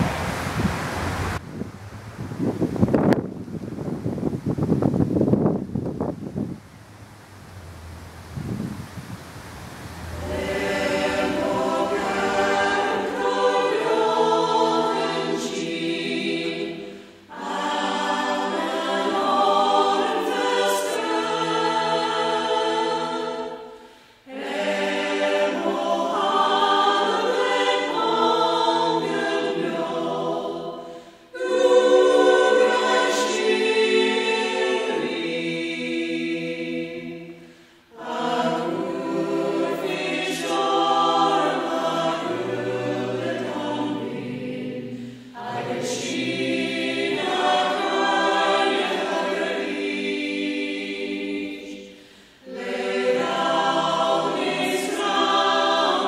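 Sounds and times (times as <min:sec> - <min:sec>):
choir singing: 0:09.4 - 0:56.0.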